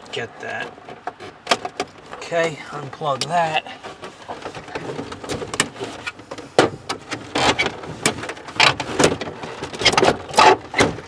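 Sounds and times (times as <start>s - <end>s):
plastic scraping and clicking: 0.0s - 11.0s.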